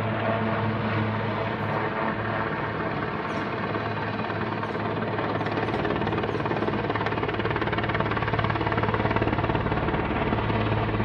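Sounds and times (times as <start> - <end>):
helicopter rotor drone: 0.0 - 11.0.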